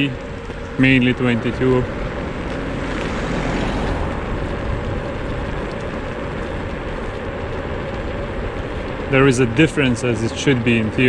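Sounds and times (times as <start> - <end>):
tyres on pavement: 0.0 - 11.0
wind rush: 0.0 - 11.0.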